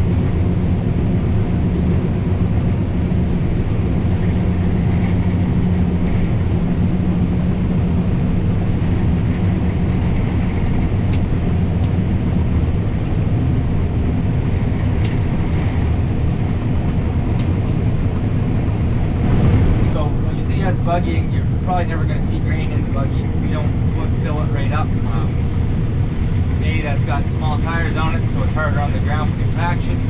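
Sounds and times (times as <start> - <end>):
combine harvester drone: 0.0 - 30.0.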